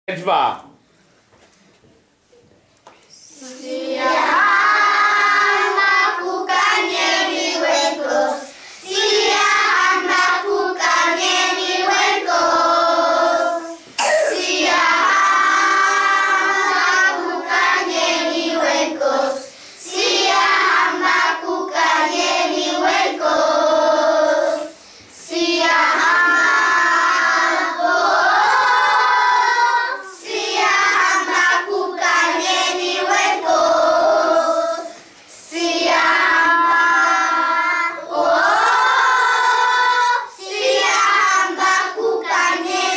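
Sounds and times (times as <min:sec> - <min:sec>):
children singing in unison: 0:03.2 - 0:42.9.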